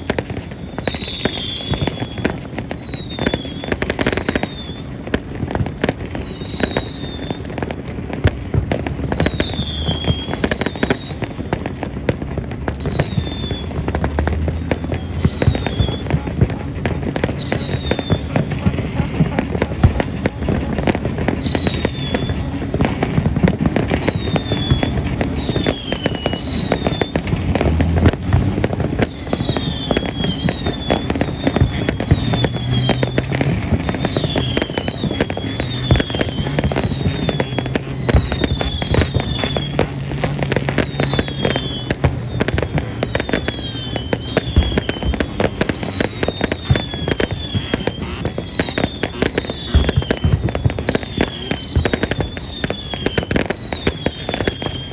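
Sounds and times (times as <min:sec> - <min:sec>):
fireworks crackling bangs: 0:00.0 - 0:54.9
fireworks whistles: 0:00.0 - 0:54.9.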